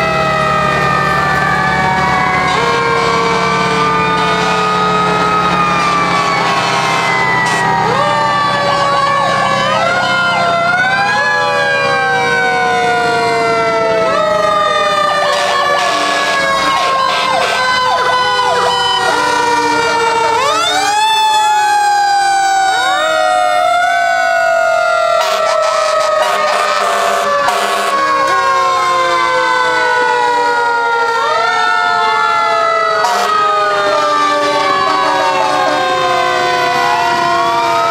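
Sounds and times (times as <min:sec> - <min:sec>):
fire truck sirens wailing: 0:00.0 - 0:37.9.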